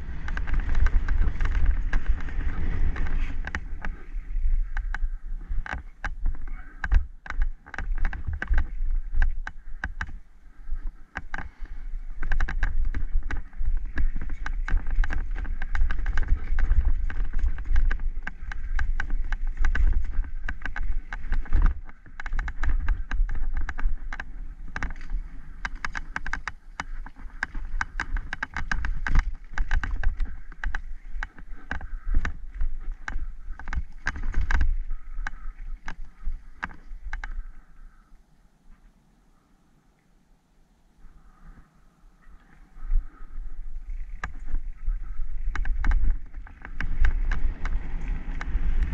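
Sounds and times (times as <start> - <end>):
mountain bike rattling: 0.0 - 37.6, 42.8 - 48.9
wind on microphone: 0.0 - 38.1, 41.0 - 48.9.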